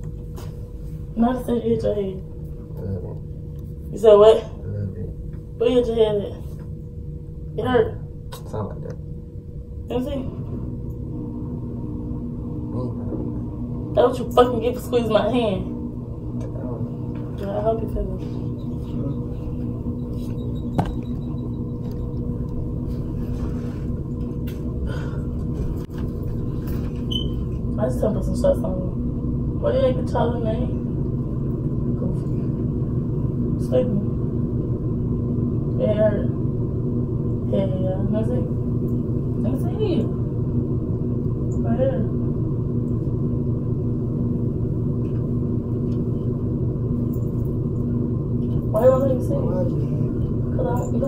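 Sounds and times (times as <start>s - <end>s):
constant hum: 0.0s - 51.0s
low rumble: 0.0s - 51.0s.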